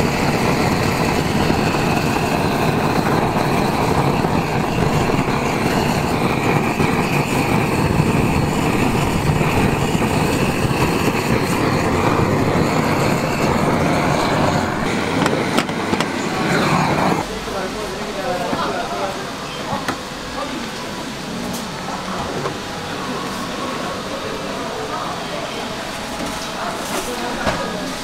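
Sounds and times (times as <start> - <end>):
blowtorch hissing: 0.0 - 28.0.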